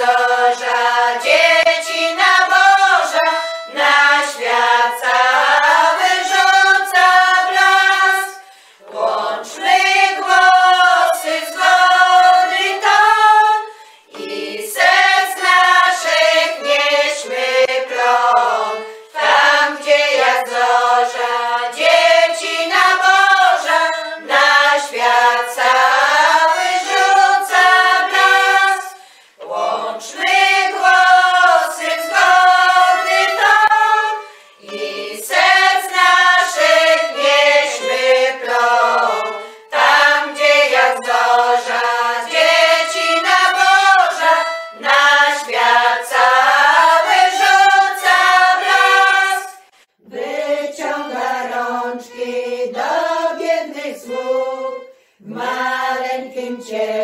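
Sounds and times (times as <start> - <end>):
women's choir singing a carol: 0.0 - 57.0.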